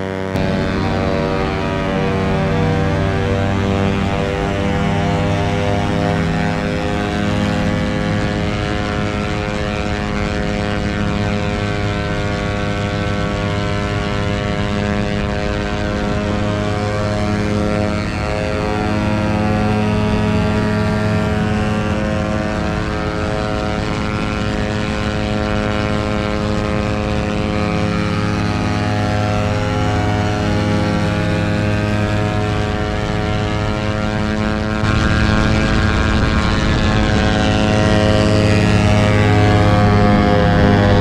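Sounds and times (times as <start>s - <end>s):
motorcycle engine at high revs: 0.0s - 41.0s
wind noise on microphone: 0.0s - 41.0s.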